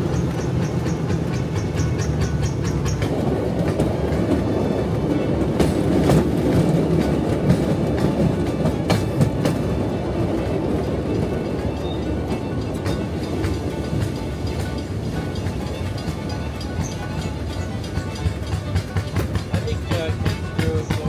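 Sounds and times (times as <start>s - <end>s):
rail car rumbling on rails: 0.0s - 21.0s
wheels clicking over rail joints: 0.0s - 21.0s.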